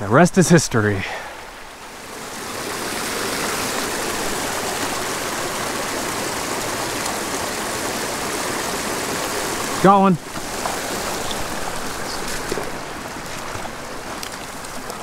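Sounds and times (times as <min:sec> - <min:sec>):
creek water babbling: 0:00.0 - 0:15.0.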